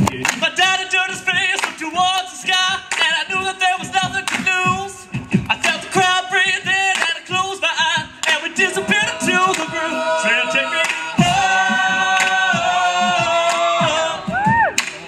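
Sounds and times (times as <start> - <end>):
male lead voice singing: 0.0 - 14.8
backing voices singing: 0.0 - 15.0.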